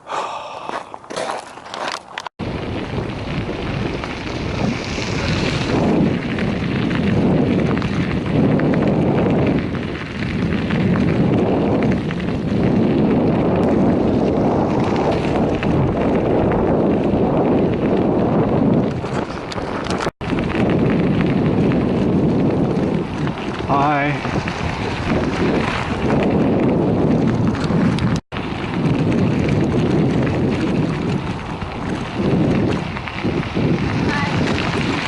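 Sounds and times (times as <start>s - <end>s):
wind buffeting microphone: 0.0s - 35.0s
tyres crackling on gravel: 0.1s - 35.0s.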